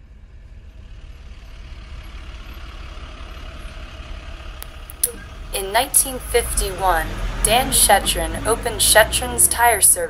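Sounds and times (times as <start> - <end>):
road vehicle rumble: 0.0 - 10.0.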